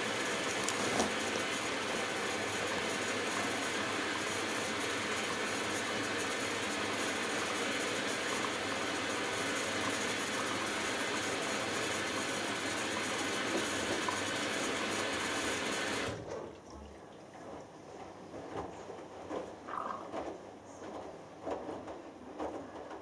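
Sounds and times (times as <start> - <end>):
water rushing into washing machine: 0.0 - 18.7.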